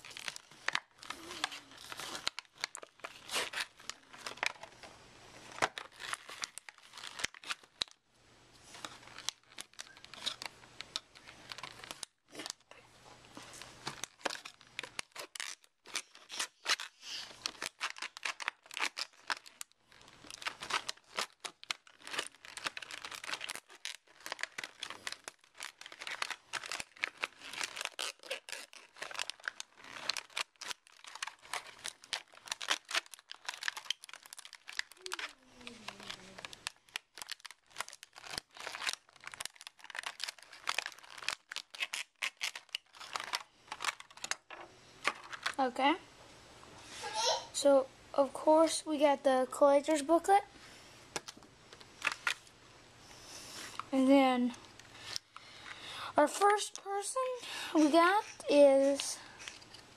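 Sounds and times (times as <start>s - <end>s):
packaging crinkling and tearing: 0.0s - 8.0s, 8.7s - 45.8s, 51.1s - 52.5s, 53.6s - 59.9s.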